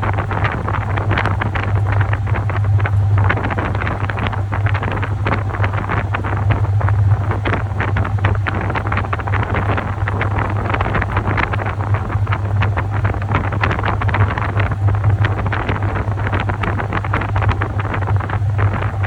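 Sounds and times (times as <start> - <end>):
washing machine motor hum: 0.0 - 19.0
water sloshing in drum: 0.0 - 19.0.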